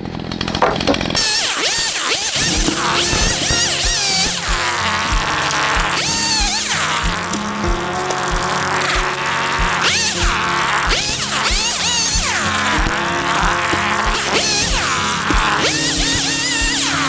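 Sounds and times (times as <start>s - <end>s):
chainsaw running at high revs: 0.0s - 17.0s
background music with steady beat: 2.4s - 17.0s.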